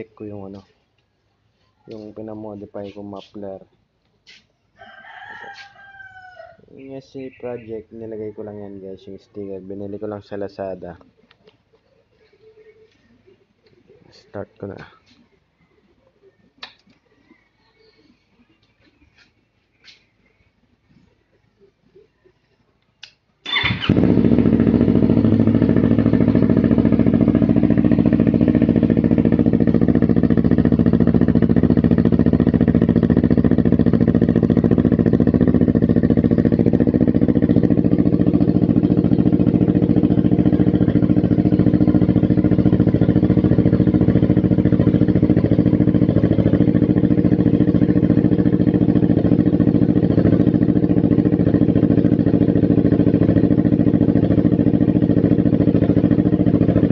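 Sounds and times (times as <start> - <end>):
motorcycle engine idling: 0.0 - 3.6, 5.5 - 22.4, 23.4 - 56.9.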